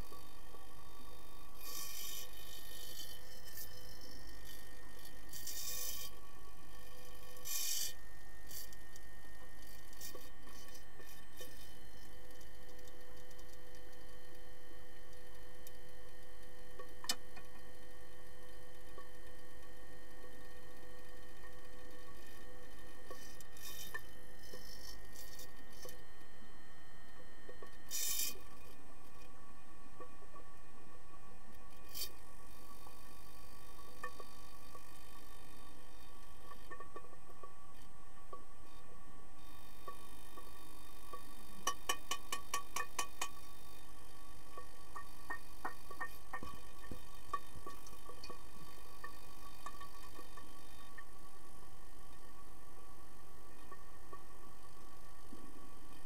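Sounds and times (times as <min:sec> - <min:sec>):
underwater low hum with tones: 0:00.0 - 0:56.0.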